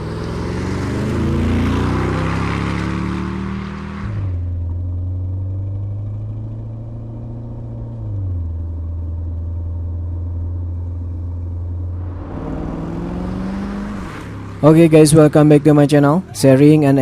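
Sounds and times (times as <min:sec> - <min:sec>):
car engine droning at low revs: 0:00.0 - 0:16.6.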